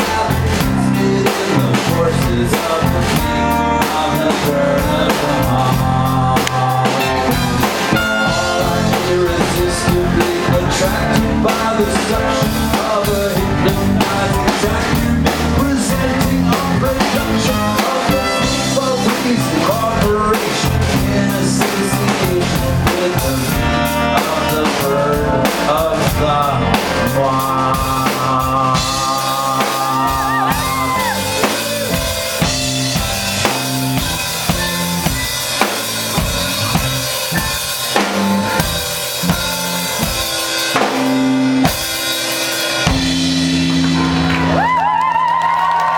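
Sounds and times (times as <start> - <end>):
drum kit playing: 0.0 - 45.9
keyboard: 0.0 - 45.9.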